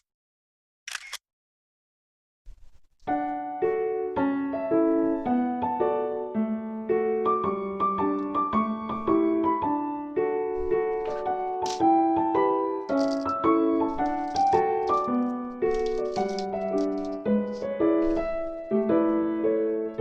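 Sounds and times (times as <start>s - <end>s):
keyboard playing light melody: 3.1s - 20.0s.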